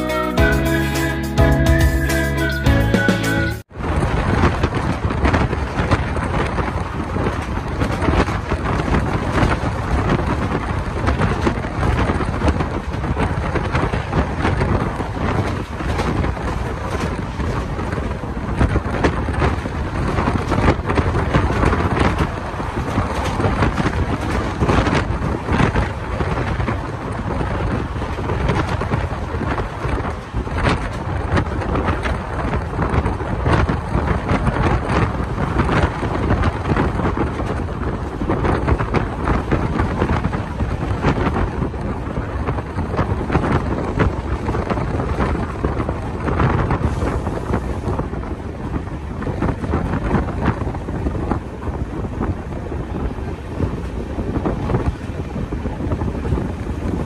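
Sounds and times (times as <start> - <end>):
train rumbling on track: 0.0 - 57.0
wind buffeting microphone: 3.6 - 57.0.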